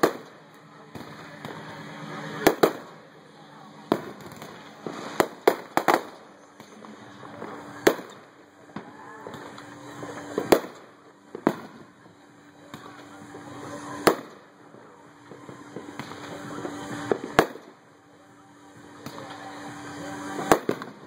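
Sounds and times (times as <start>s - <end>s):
faint fireworks crackling: 0.0s - 21.0s
fireworks bangs: 0.0s - 21.0s.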